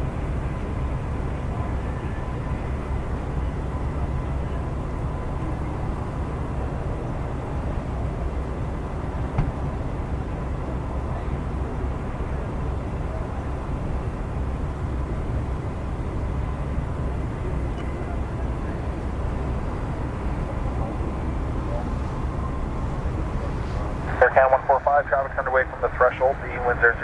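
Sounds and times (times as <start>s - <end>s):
jet engines low rumble: 0.0s - 27.0s.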